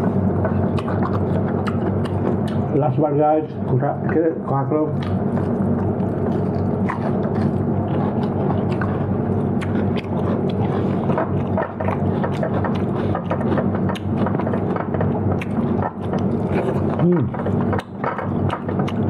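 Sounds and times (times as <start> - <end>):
chewing: 0.0 - 2.8, 4.9 - 19.0
low background hum: 0.0 - 19.0.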